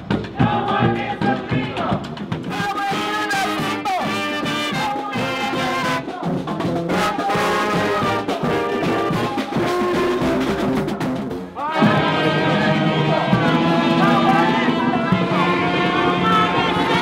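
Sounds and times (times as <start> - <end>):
marching band brass playing: 0.0 - 17.0.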